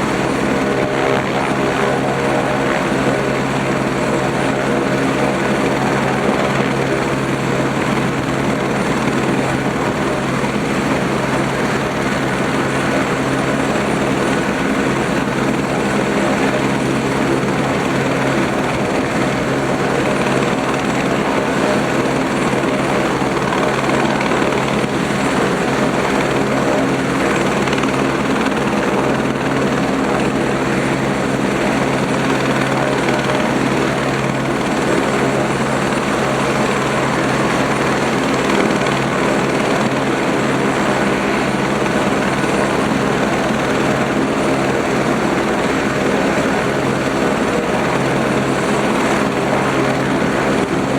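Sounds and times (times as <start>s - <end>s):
helicopter engine and rotor: 0.0s - 50.9s.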